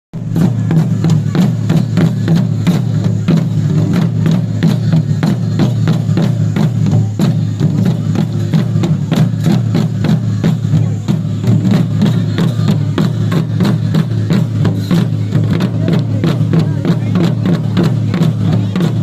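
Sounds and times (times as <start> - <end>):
drum strokes in fast rhythm: 0.1 - 19.0.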